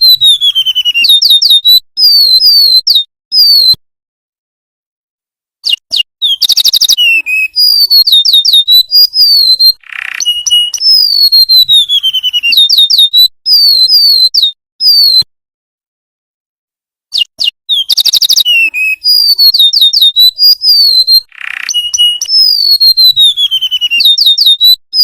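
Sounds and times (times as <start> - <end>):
bird singing high whistles: 0.0 - 3.8, 5.6 - 15.3, 17.1 - 25.0.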